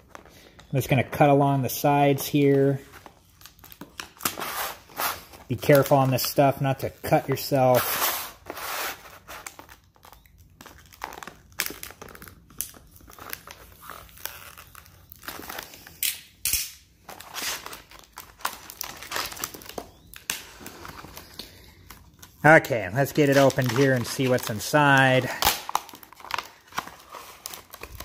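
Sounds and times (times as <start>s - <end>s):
plastic packaging crinkling: 1.7s - 16.4s, 17.0s - 28.0s.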